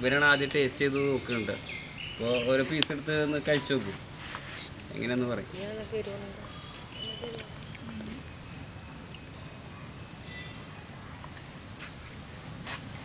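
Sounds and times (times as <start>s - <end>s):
insect chirps: 0.0s - 13.0s
insects chirring: 0.0s - 13.0s.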